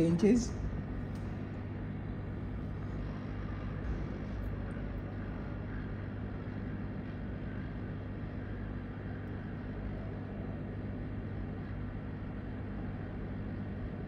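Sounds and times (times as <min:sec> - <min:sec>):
electric fan: 0:00.0 - 0:14.0
low hum: 0:00.0 - 0:14.0.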